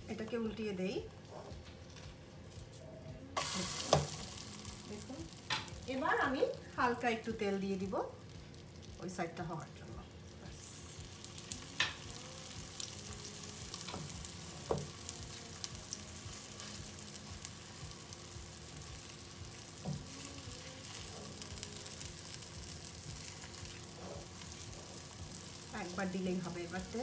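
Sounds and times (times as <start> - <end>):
oil sizzling in a frying pan: 3.4 - 27.0.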